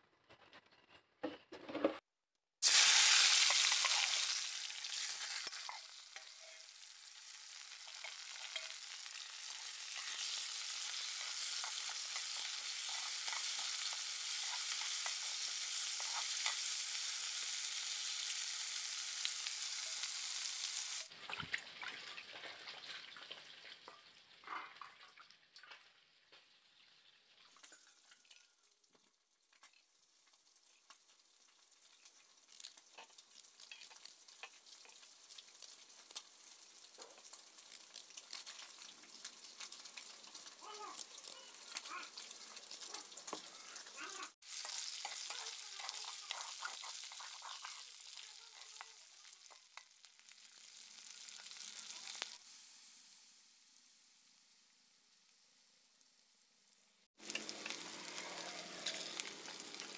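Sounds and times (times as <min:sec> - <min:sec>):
fish sizzling in hot oil: 0:02.6 - 0:24.4, 0:25.9 - 0:59.9.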